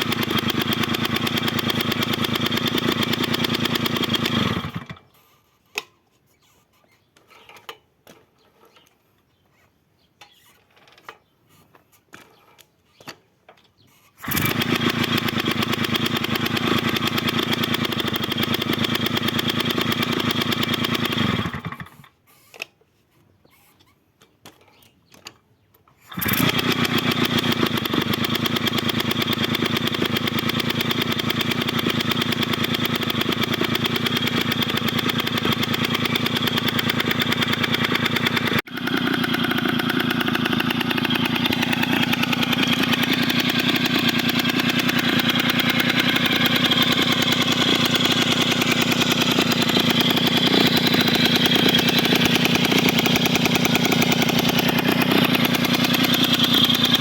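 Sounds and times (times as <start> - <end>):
moped two-stroke engine putter: 0.0 - 5.9, 12.2 - 22.8, 26.0 - 57.0.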